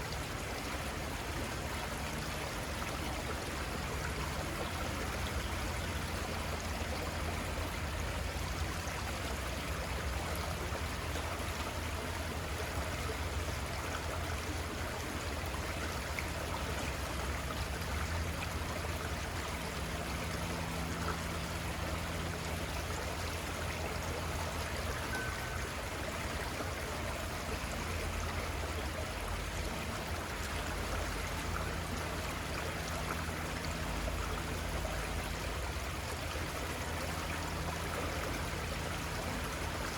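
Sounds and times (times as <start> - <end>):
river water rushing and trickling: 0.0 - 39.9.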